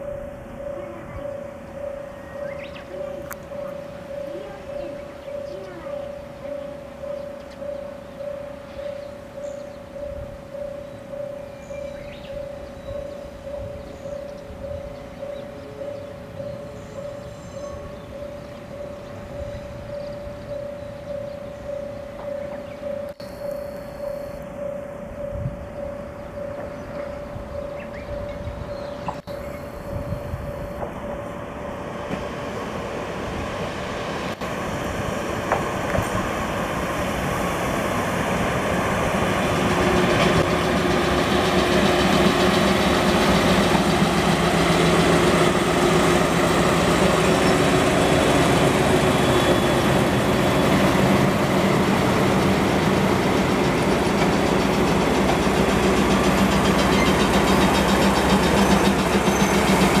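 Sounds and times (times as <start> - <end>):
diesel locomotive passing: 0.0 - 60.0.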